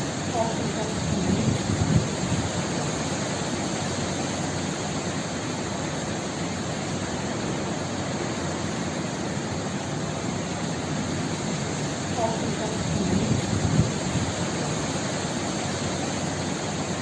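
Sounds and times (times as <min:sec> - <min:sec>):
heavy rain: 0:00.0 - 0:17.0
wind: 0:00.0 - 0:17.0.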